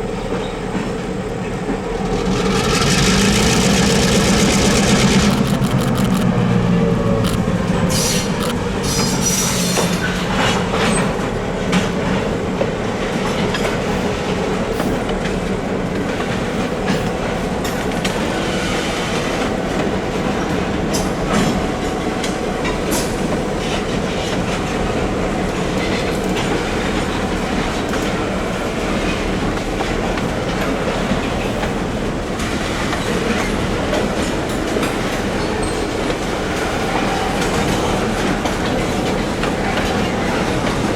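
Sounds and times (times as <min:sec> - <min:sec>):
freight train rolling past: 0:00.0 - 0:40.9
locomotive engine: 0:00.2 - 0:40.9.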